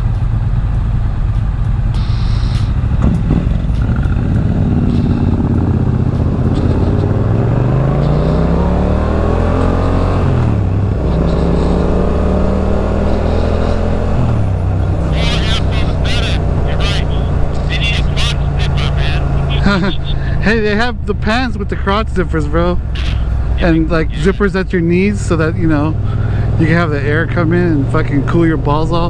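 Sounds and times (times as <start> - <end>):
motorcycle engine accelerating: 0.0 - 29.0
wind and road noise: 0.0 - 29.0.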